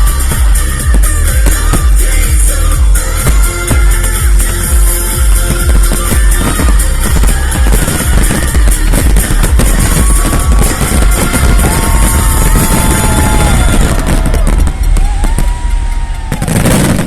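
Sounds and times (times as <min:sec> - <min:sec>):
fireworks booming and crackling: 0:00.0 - 0:17.0
music soundtrack: 0:00.0 - 0:17.0.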